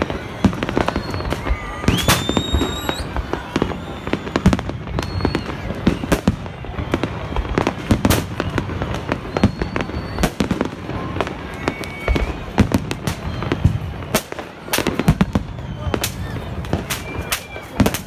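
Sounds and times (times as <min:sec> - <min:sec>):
firework rising whistle: 0:00.0 - 0:18.0
fireworks bursting with bangs and crackles: 0:00.0 - 0:18.0.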